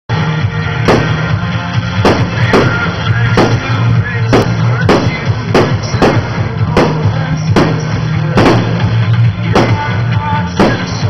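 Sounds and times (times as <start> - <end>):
music: 0.1 - 11.0
fireworks bangs: 0.8 - 11.0.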